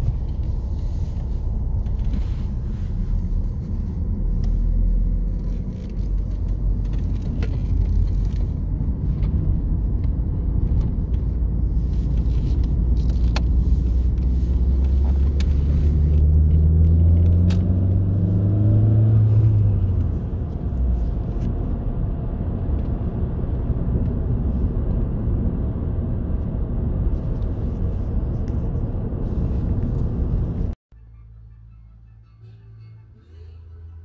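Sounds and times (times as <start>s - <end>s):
car engine accelerating: 0.0s - 30.8s
road rumble: 0.0s - 34.0s.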